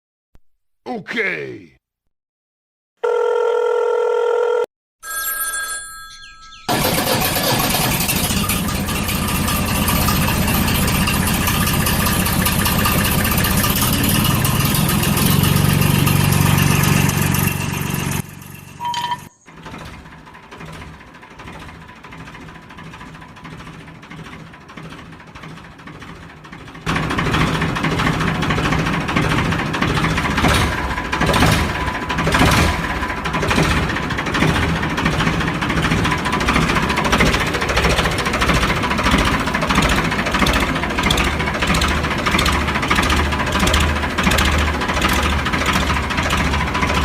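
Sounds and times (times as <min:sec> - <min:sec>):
rattling clatter: 0:06.5 - 0:47.0.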